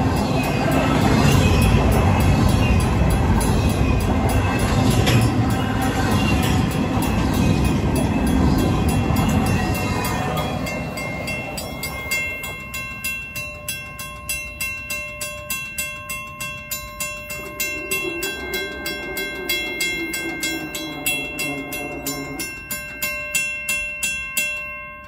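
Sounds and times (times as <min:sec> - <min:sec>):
mechanical crossing bell ringing: 0:00.0 - 0:25.0
train car rumbling: 0:00.0 - 0:25.0.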